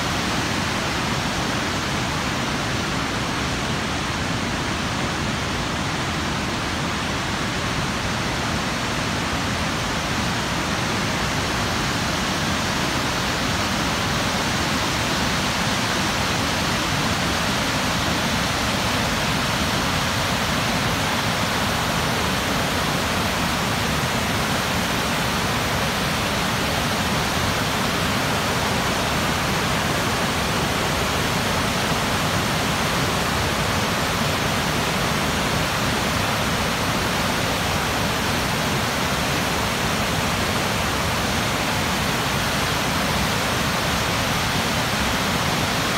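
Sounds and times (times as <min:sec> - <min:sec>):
whitewater rushing over rocks: 0:00.0 - 0:45.9.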